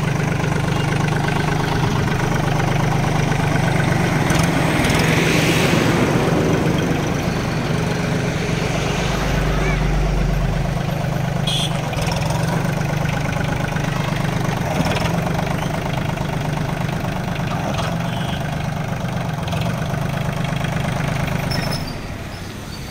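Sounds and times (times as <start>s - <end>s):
diesel engine idling: 0.0s - 22.9s.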